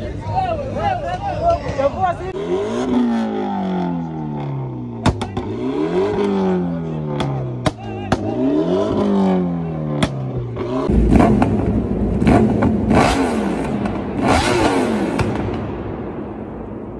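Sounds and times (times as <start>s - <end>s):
car engine revving: 2.3s - 16.9s.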